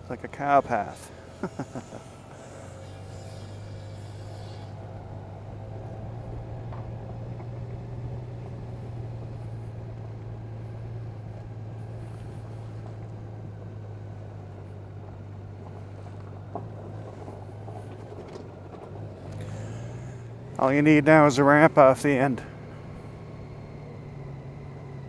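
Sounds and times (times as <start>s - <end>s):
motorcycle engine humming: 0.0s - 25.0s.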